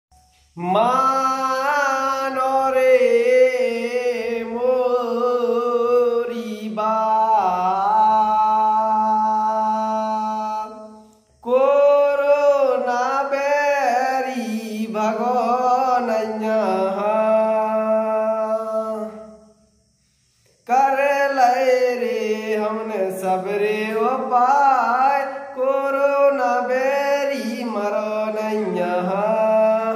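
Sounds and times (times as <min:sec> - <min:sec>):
man singing unaccompanied: 0:00.2 - 0:19.8, 0:20.6 - 0:29.9.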